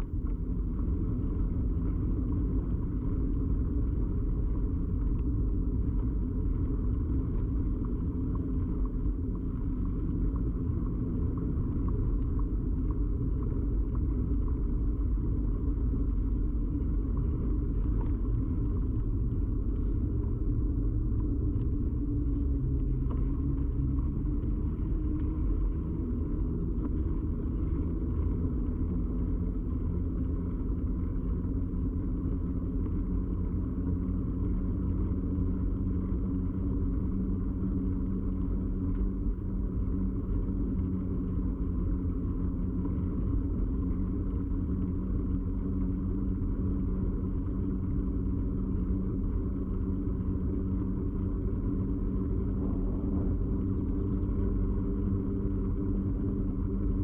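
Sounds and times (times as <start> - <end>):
bicycle tyre road rumble: 0.0 - 57.0
faint ticks and rattles: 0.0 - 57.0.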